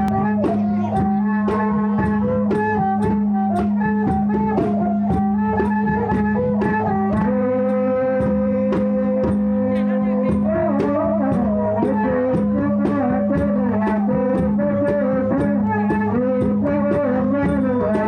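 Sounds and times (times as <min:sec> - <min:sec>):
folk ensemble melody: 0:00.0 - 0:18.0
percussion clicking a beat: 0:00.0 - 0:18.0.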